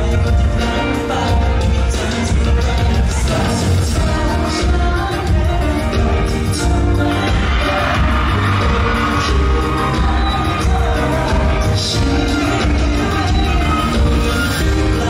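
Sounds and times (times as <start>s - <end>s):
pop song over sound system: 0.0s - 15.0s.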